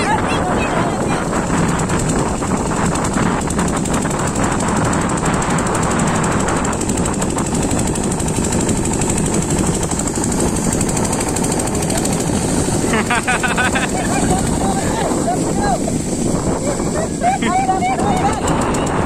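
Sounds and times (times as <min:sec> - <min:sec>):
diesel engine knocking: 0:00.0 - 0:19.0.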